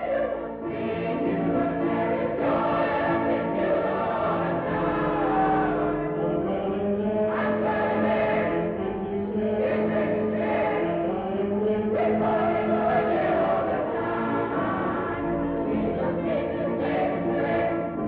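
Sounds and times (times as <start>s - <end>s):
choir singing gospel: 0.0s - 18.0s.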